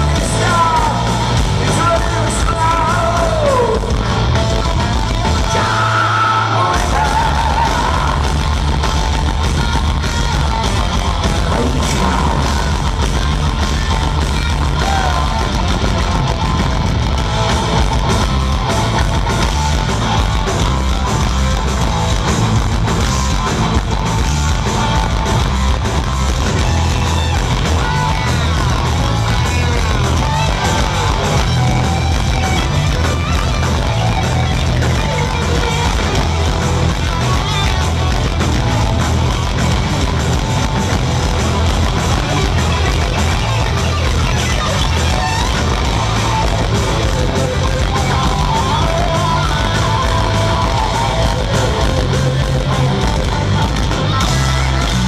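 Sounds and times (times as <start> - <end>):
heavy metal band playing live: 0.0 - 55.0
lead guitar bending lines: 7.7 - 55.0.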